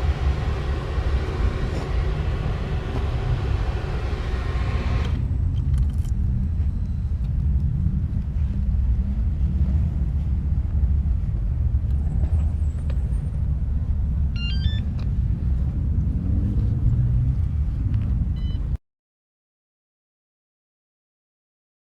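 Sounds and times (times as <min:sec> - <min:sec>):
motorcycle engine rumble: 0:00.0 - 0:18.7
road noise: 0:00.0 - 0:18.8.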